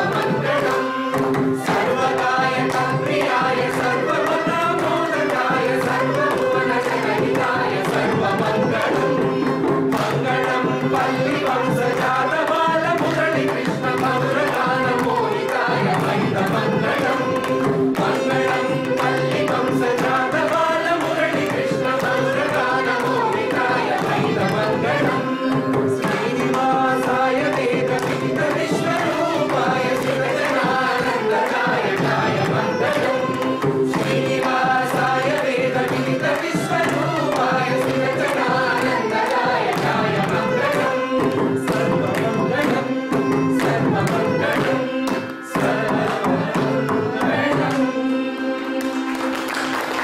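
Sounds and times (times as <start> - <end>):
group of voices singing: 0.0 - 50.0.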